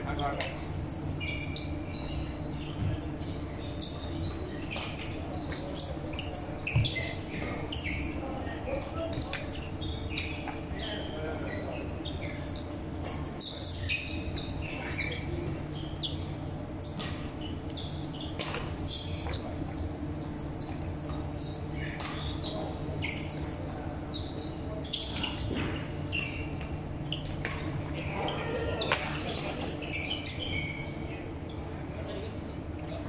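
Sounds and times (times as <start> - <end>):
hum of large hall: 0.0 - 33.0
sneakers squeaking: 0.0 - 33.0.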